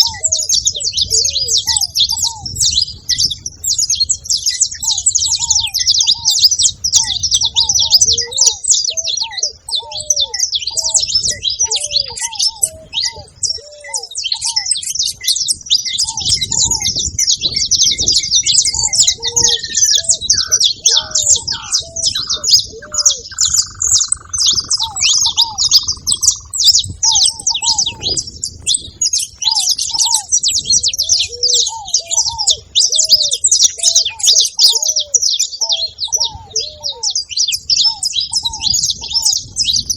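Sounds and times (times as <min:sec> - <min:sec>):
dove cooing: 0:00.0 - 0:39.9
finches chirping and chattering: 0:00.0 - 0:39.9.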